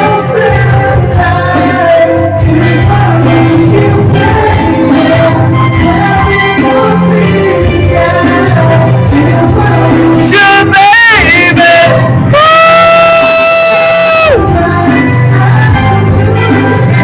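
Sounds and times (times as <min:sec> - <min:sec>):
backing music: 0:00.0 - 0:17.0
man singing a ballad: 0:00.0 - 0:17.0.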